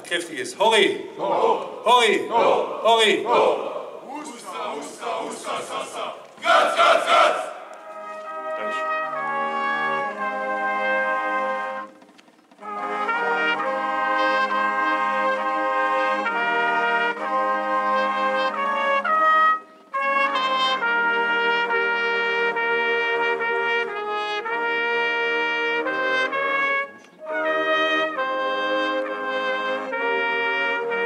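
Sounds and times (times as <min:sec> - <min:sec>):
brass band playing slow tune: 0:03.3 - 0:31.0.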